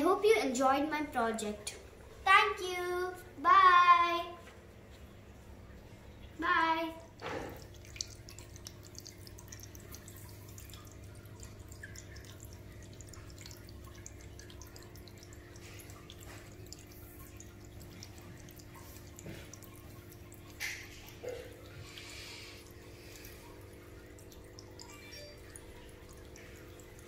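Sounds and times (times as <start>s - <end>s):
water trickling: 4.3s - 27.0s
water dripping into tray: 4.4s - 27.0s.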